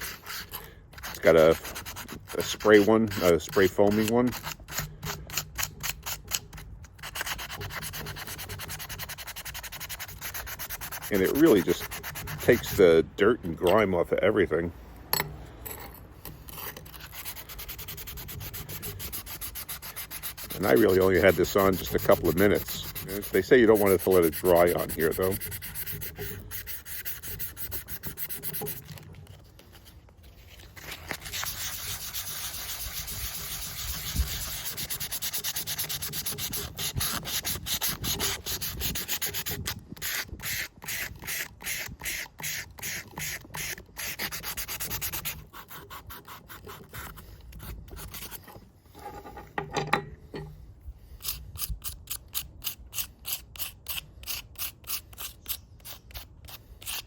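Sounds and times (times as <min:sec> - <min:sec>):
hand scrubbing steel parts: 0:00.0 - 0:39.7, 0:42.4 - 0:57.0.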